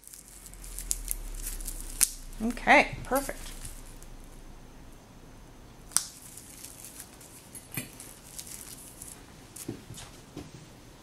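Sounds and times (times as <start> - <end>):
rustling of hair and wraps: 0.0 - 4.5, 5.9 - 10.7.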